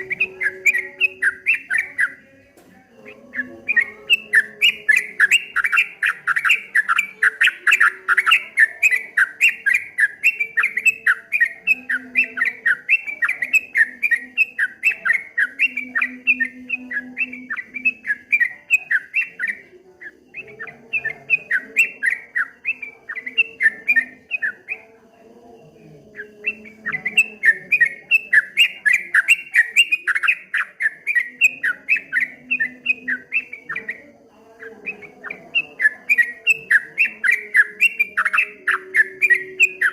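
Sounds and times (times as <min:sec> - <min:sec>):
bird singing chattering notes: 0:00.0 - 0:25.1, 0:26.0 - 0:39.9.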